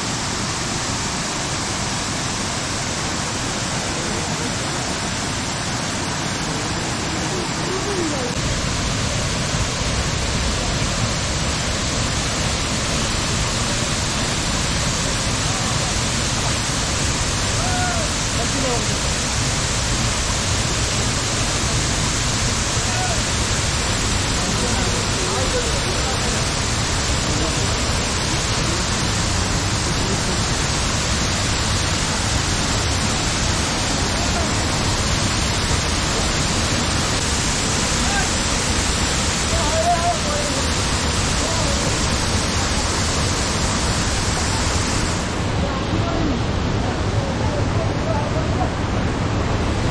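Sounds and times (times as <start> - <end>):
waterfall rushing water: 0.0 - 49.9.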